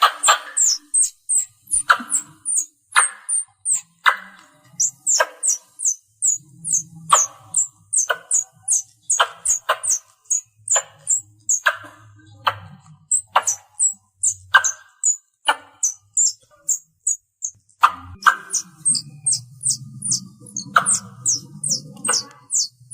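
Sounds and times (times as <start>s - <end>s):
squirrel chirping: 0.0s - 22.9s.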